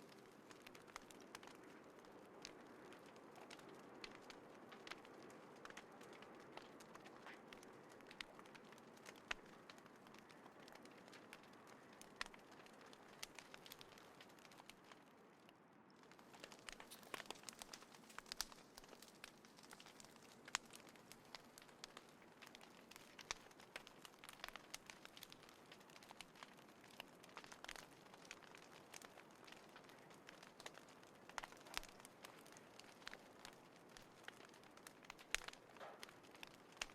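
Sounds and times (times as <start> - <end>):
fire pops: 0.0 - 36.9
wood fire crackling: 0.0 - 36.9.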